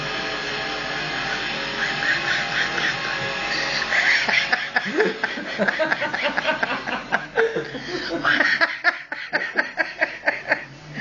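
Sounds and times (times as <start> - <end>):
people laughing: 1.6 - 11.0.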